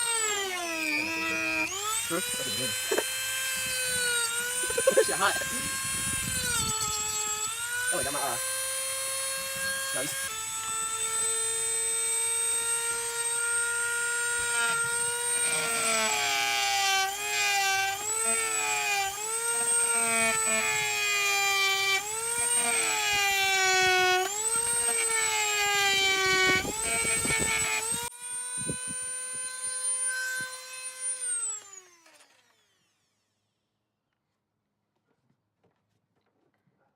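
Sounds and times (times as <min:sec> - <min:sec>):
electric power tool whining: 0:00.0 - 0:33.7.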